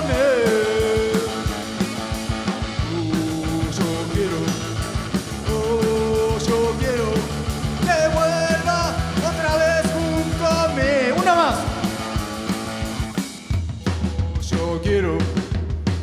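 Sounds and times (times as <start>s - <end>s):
electric guitar lead: 0.0s - 14.4s
drum kit: 0.0s - 16.0s
electric bass: 0.0s - 16.0s.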